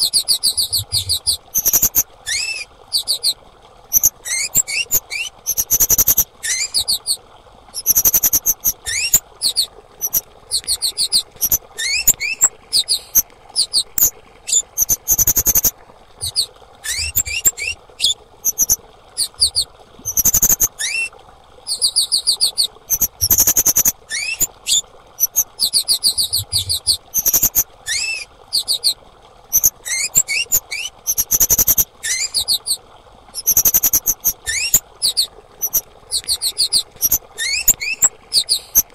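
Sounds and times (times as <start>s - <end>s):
bird high chirps and whistles: 0.0s - 7.2s, 7.8s - 21.1s, 21.7s - 32.8s, 33.4s - 38.9s.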